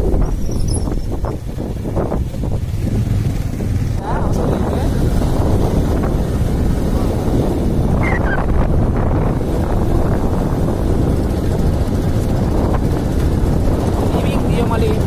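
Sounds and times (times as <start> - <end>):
motorbike engine: 0.0 - 15.0
road noise: 0.0 - 15.0
wind buffeting microphone: 0.0 - 15.0.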